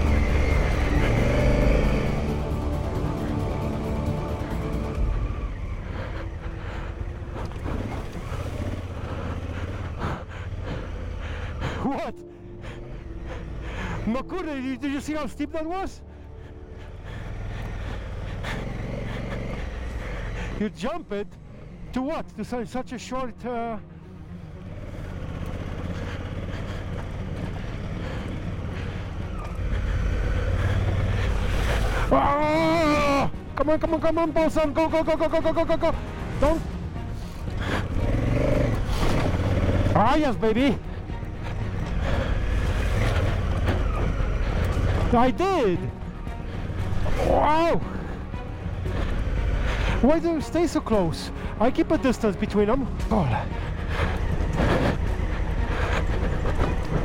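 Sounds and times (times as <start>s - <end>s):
motorcycle engine running: 0.0s - 14.7s, 16.1s - 20.7s, 24.0s - 50.6s, 52.5s - 57.0s.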